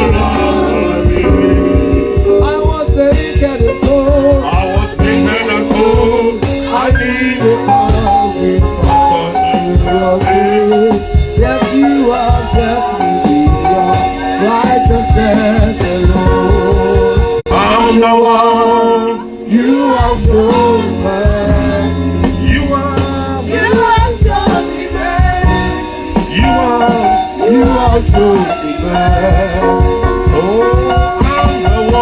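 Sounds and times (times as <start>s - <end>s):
gospel band music: 0.0s - 32.0s
person singing: 0.0s - 32.0s.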